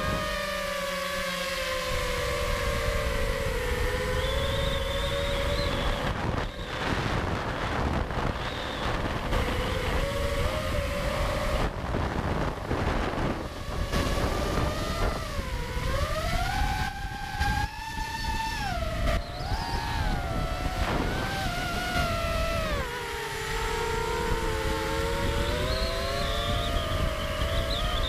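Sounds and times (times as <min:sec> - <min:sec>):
drone motors whining: 0:00.0 - 0:28.0
wind buffeting microphone: 0:00.0 - 0:28.0.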